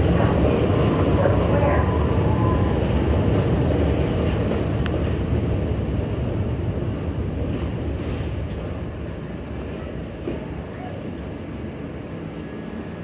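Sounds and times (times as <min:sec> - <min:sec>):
subway train rumbling on tracks: 0:00.0 - 0:13.0.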